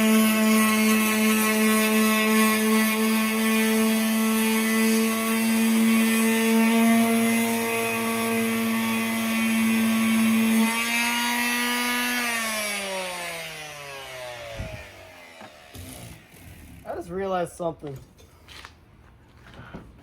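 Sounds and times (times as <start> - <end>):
power sander motor humming: 0.0 - 16.9.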